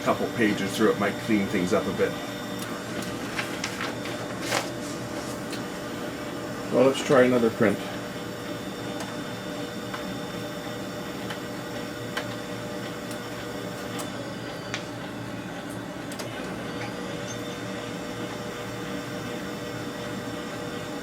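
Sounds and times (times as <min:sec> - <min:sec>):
printer mechanical hum with whine: 0:00.0 - 0:21.0.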